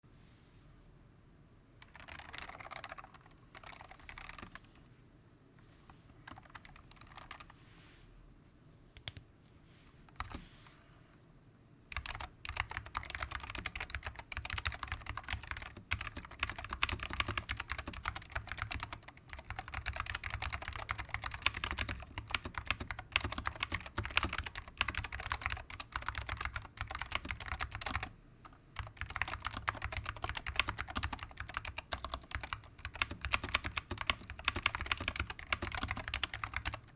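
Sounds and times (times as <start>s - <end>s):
keyboard typing: 1.8s - 4.8s, 6.2s - 7.6s, 10.2s - 10.4s, 11.9s - 36.9s.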